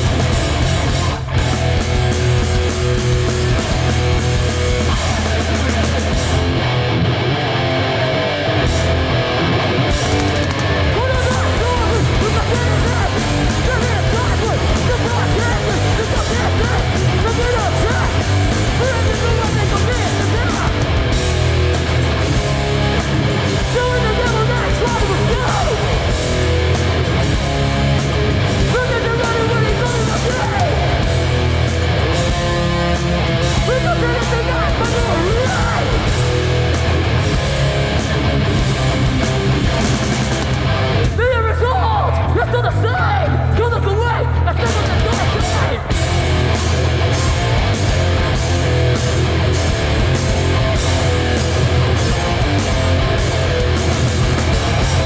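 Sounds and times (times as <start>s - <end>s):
bass guitar: 0.0s - 55.0s
distorted electric guitars: 0.0s - 55.0s
drums: 0.0s - 55.0s
punk band playing live: 0.0s - 55.0s.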